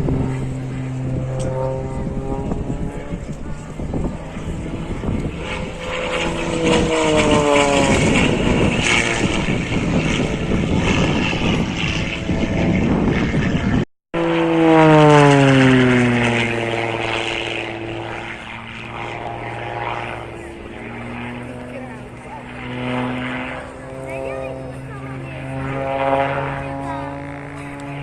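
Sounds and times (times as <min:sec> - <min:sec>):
propeller airplane flying past: 0:00.0 - 0:28.0.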